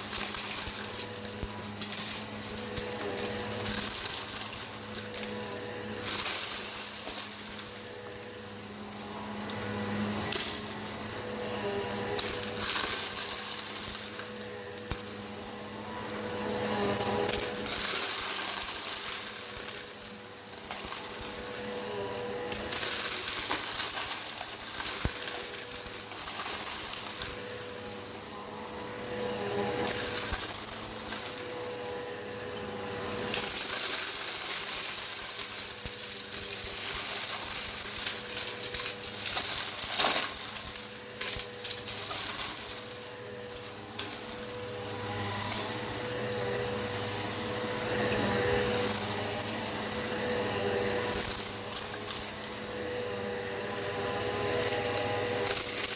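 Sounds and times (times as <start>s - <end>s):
salt and lentils rattling: 0.0s - 52.9s, 53.8s - 55.9s
upright vacuum running: 0.0s - 55.9s.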